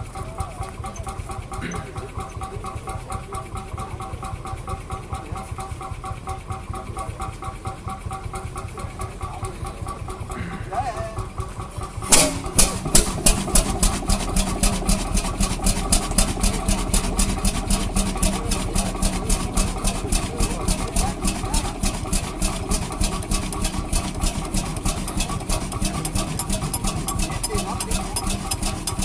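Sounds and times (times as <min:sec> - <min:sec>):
old engine knocking steadily: 0:00.0 - 0:29.0.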